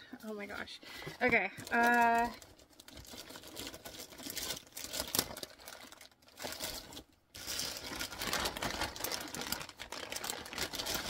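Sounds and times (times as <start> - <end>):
plastic bag crinkling: 1.2 - 11.0.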